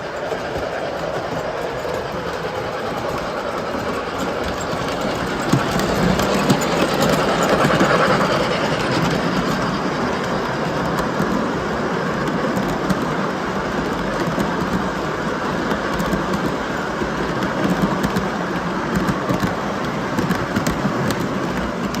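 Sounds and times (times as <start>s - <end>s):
model train running on track: 0.0s - 22.0s.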